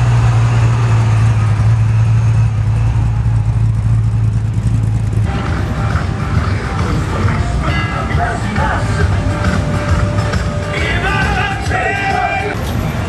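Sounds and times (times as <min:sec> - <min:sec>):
deep car exhaust rumble: 0:00.0 - 0:13.0.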